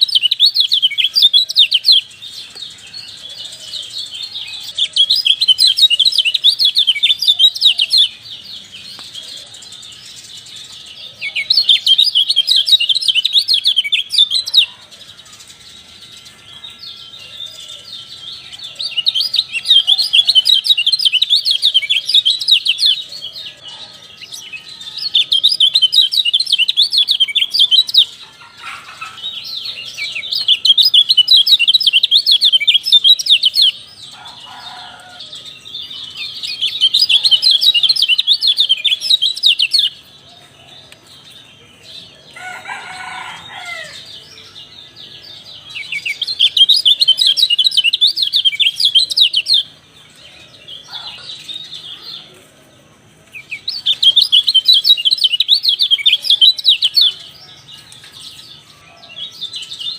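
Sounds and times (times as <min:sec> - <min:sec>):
bird rapid high chirping: 0:00.0 - 0:35.0, 0:35.6 - 0:40.6, 0:43.3 - 0:49.9, 0:50.7 - 0:52.5, 0:53.3 - 0:59.9.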